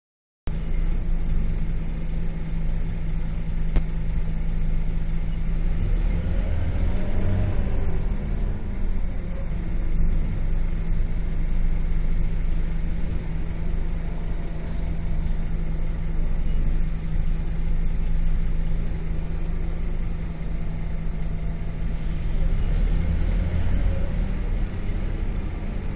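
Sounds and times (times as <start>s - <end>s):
bus diesel engine running: 0.5s - 25.9s.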